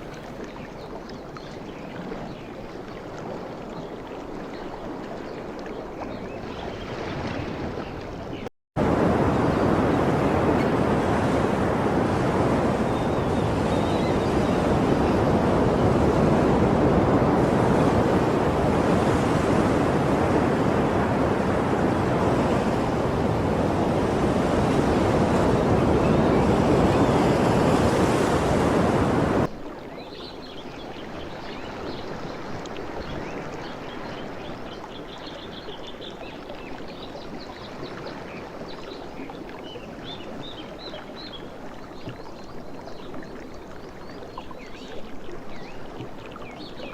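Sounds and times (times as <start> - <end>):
gentle water sound: 0.0 - 46.9
ocean waves and surf: 0.0 - 46.9.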